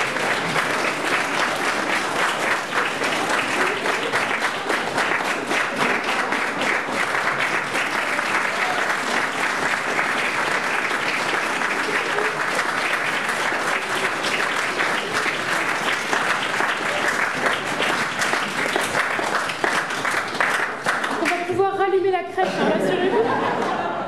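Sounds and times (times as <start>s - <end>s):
audience applauding: 0.0s - 21.7s, 22.6s - 24.0s.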